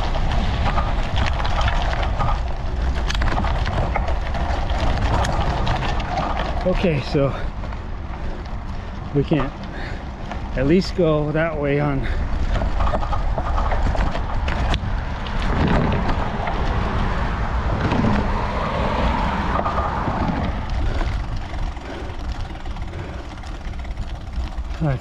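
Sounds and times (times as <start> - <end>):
bicycle tyres crunching on gravel: 0.0 - 25.0
bike clicks and rattles: 0.0 - 25.0
wind rumble on microphone: 0.0 - 25.0.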